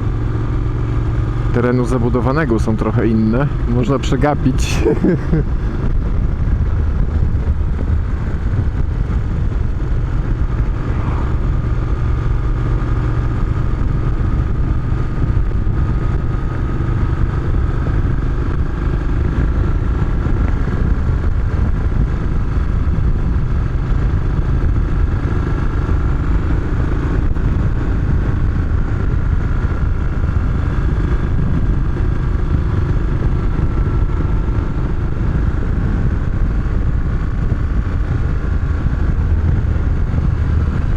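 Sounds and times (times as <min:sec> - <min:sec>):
motorcycle engine running: 0:00.0 - 0:40.9
riding wind rumble: 0:00.0 - 0:40.9.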